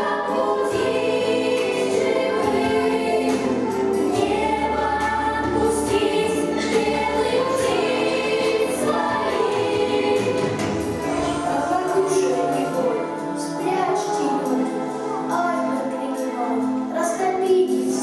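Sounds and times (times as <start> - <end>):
instrumental accompaniment: 0.0 - 17.0
children singing in chorus: 0.0 - 18.0.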